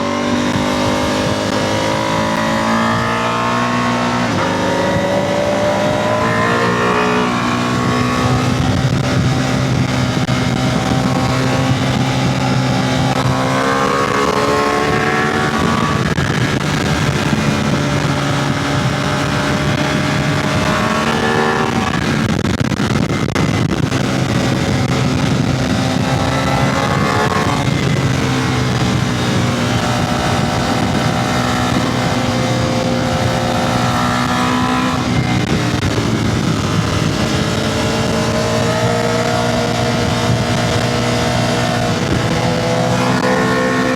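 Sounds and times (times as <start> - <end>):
motorcycle engine accelerating: 0.0 - 43.9
wind noise: 0.0 - 43.9.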